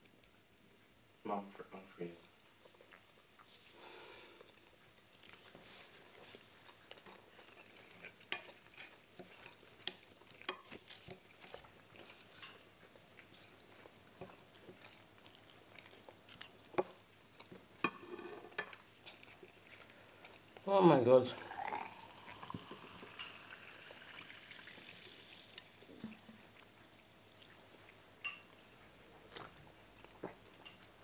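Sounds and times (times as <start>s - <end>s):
chewing: 2.4s - 20.7s, 21.4s - 31.0s.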